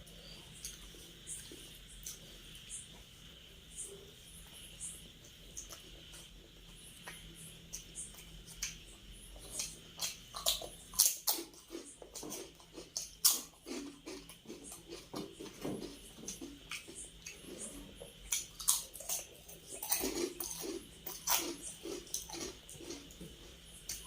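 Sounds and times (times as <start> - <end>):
person chewing with mouth clicks: 0.2 - 3.1, 4.4 - 8.8, 9.4 - 24.0.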